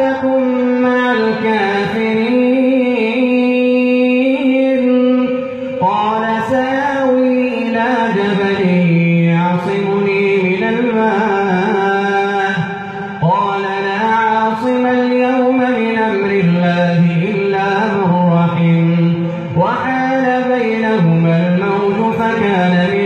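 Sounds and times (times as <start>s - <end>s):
man chanting into a microphone: 0.0s - 23.0s.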